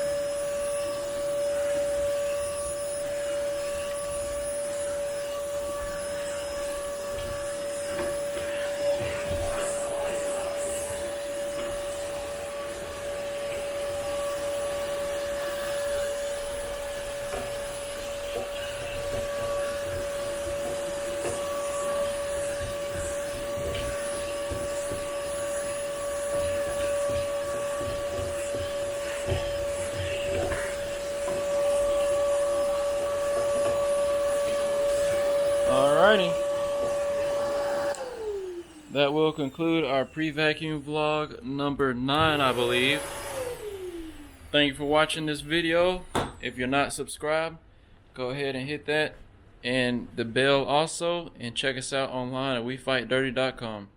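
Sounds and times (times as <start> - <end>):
vacuum cleaner motor whine: 0.0 - 46.1.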